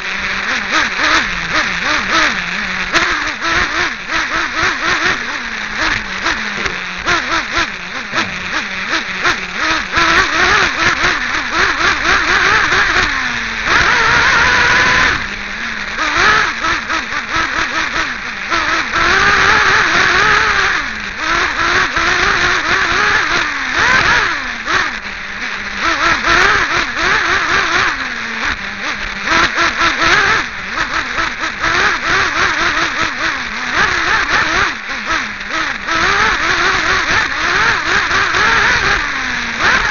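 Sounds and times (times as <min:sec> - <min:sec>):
rc car engine revving: 0:00.0 - 0:39.9.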